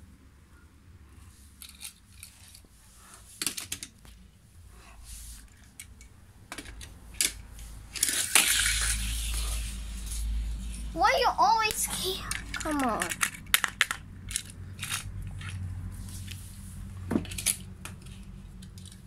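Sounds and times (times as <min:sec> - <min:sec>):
toy cars clattering: 0:01.5 - 0:04.2, 0:05.4 - 0:16.4, 0:17.1 - 0:19.0.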